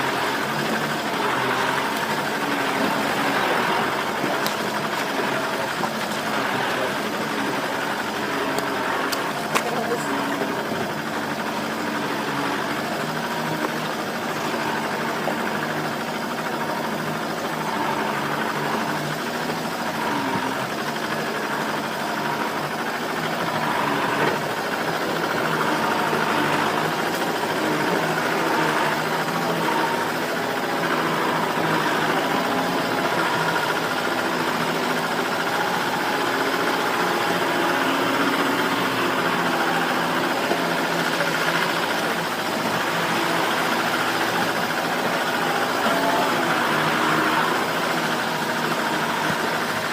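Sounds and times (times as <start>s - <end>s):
truck engine running: 0.0s - 49.9s.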